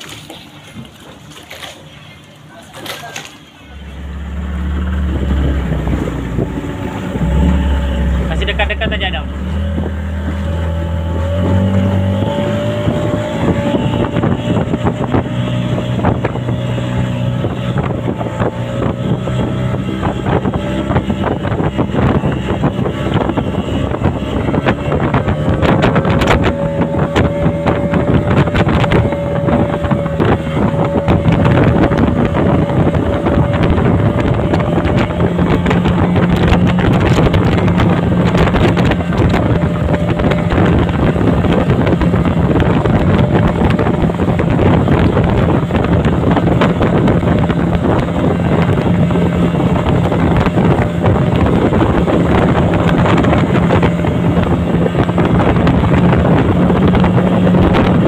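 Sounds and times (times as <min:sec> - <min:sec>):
outboard engines running: 0:00.0 - 0:58.0
water rushing: 0:00.0 - 0:58.0
wind buffeting microphone: 0:00.0 - 0:58.0.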